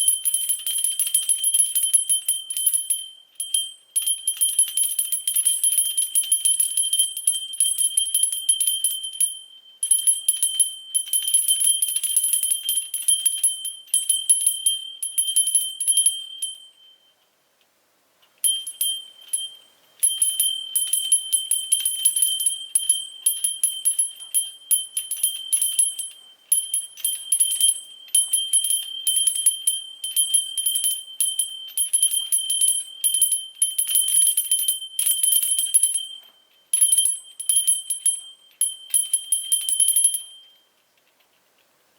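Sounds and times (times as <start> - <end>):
small hand bell ringing: 0.0 - 17.1, 18.4 - 40.7.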